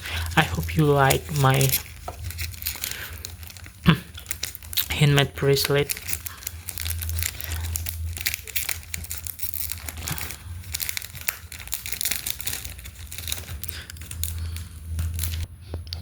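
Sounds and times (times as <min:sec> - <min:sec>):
plastic packaging crinkling: 0:00.0 - 0:16.0
steady low hum: 0:00.0 - 0:16.0.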